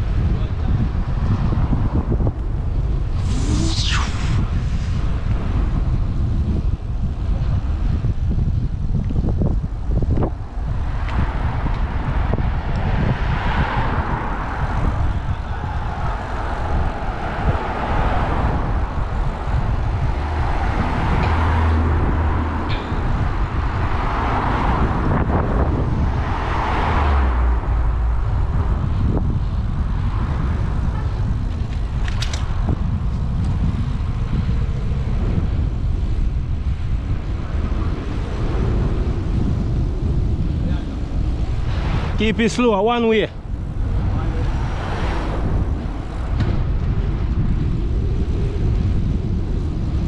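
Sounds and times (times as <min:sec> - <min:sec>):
road traffic rumble: 0:00.0 - 0:50.0
vehicles passing: 0:00.0 - 0:50.0
wind on microphone: 0:00.0 - 0:50.0.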